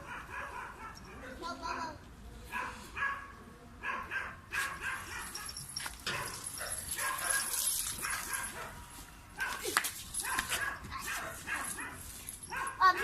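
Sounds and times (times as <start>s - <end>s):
puppy barking: 0.0s - 1.4s, 2.5s - 8.8s, 9.4s - 13.0s.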